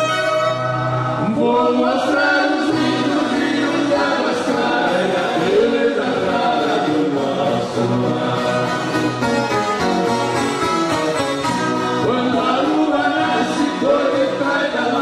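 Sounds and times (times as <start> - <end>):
guitar ensemble playing country song: 0.0 - 15.0
choir singing: 1.1 - 10.2, 12.0 - 15.0.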